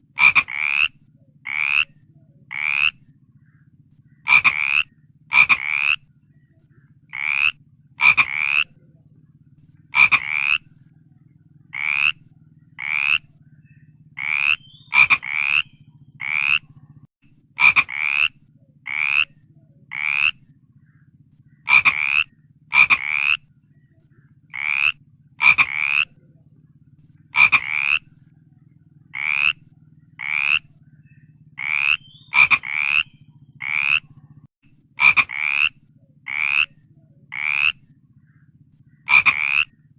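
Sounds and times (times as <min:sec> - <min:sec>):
frog croaking: 0:00.0 - 0:06.1, 0:07.0 - 0:23.6, 0:24.3 - 0:39.9
faint low hum: 0:00.0 - 0:39.9.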